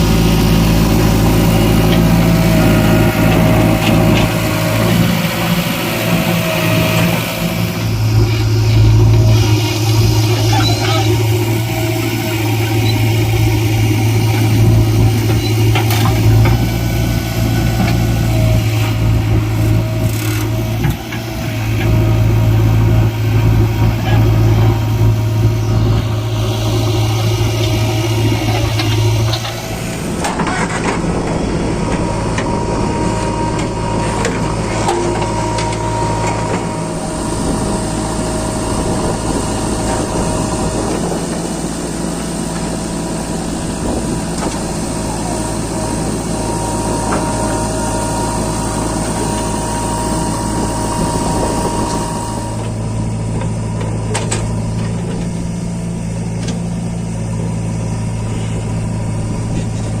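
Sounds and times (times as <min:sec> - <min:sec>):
faint whine: 0:00.0 - 1:00.0
heavy diesel engines running: 0:00.0 - 1:00.0.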